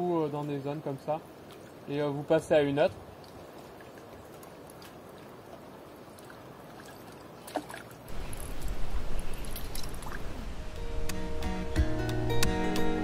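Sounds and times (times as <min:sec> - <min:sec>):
small waves lapping at shore: 0:00.0 - 0:10.8.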